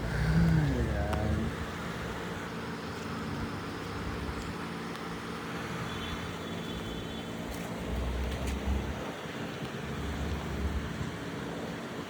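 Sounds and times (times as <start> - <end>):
vehicle engine humming: 0.0 - 11.8.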